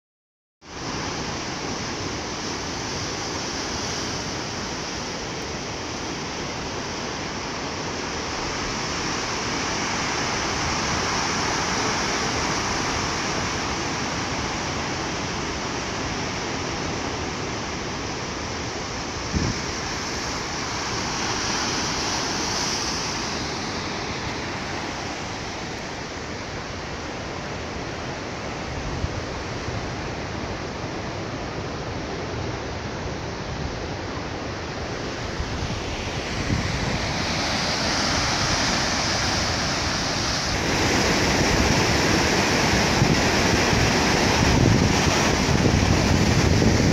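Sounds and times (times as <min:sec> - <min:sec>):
waves breaking on rocky shore: 0:00.7 - 0:46.9.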